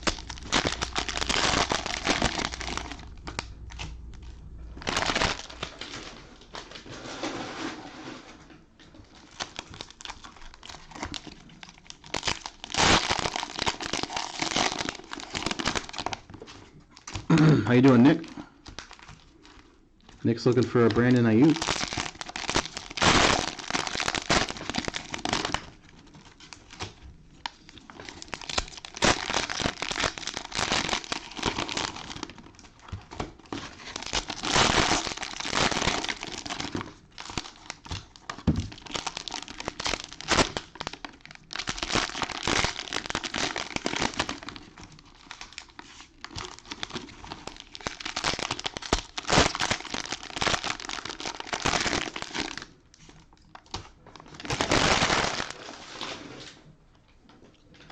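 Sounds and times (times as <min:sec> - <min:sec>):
cellophane wrappers crinkling: 0:00.0 - 0:07.4, 0:08.9 - 0:56.5.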